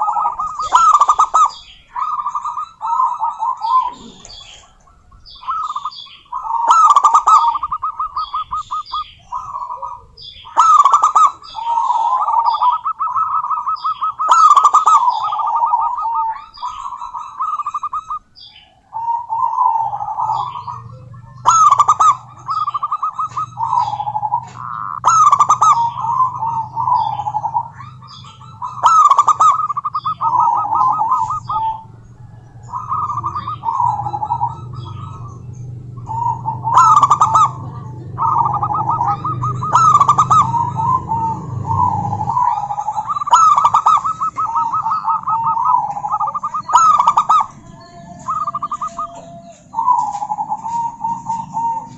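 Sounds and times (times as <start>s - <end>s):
dove cooing: 0.0s - 51.9s
low steady hum: 0.0s - 51.9s.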